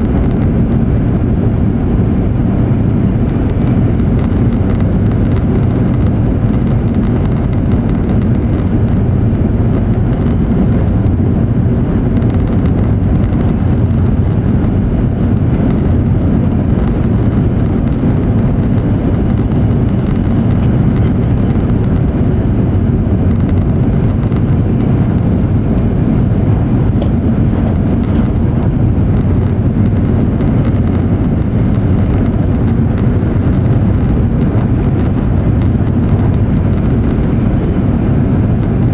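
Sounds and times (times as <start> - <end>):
train rumble inside carriage: 0.0 - 38.9.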